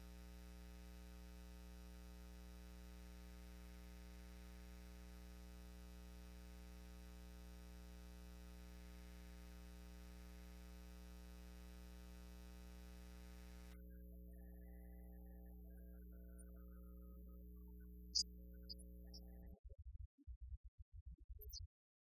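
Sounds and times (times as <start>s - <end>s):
buzzy electrical hum: 0.0s - 19.6s.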